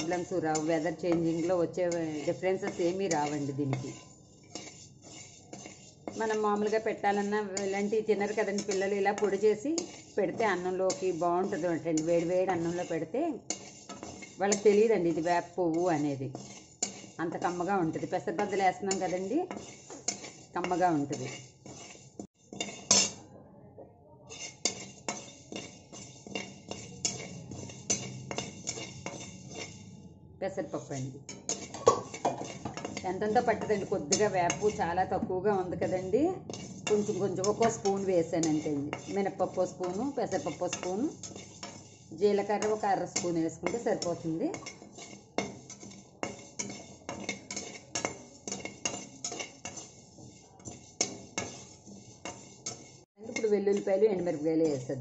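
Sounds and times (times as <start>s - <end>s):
metal spatula scraping pan: 0.0s - 23.2s, 24.2s - 55.0s.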